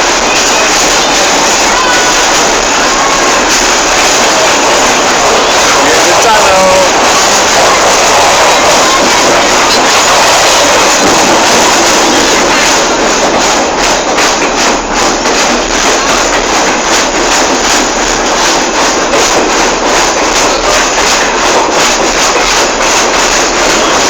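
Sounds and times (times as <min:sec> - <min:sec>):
wheels clicking on rails: 0:00.0 - 0:24.0.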